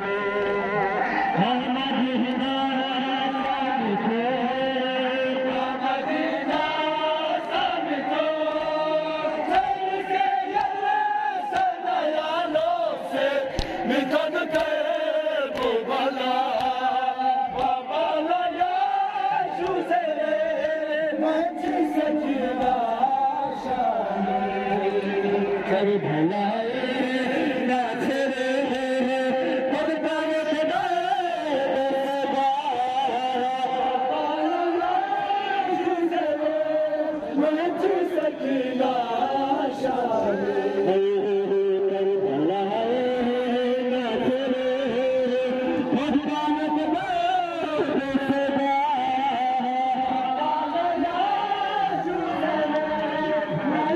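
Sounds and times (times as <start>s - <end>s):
men chanting a lament: 0.0s - 53.9s
person singing into a microphone: 0.0s - 53.9s.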